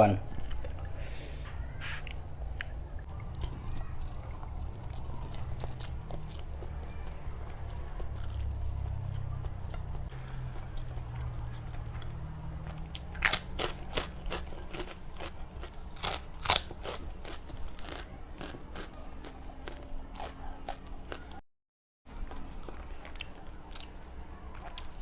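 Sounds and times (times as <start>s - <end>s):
chewing and crunching: 0.0s - 21.4s, 22.1s - 25.0s.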